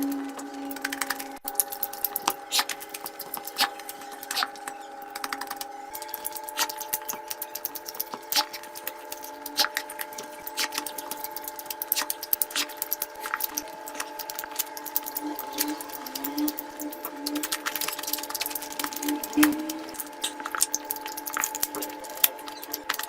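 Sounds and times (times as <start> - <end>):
faint steady hum: 0.0 - 23.0
food crunching: 0.0 - 23.0.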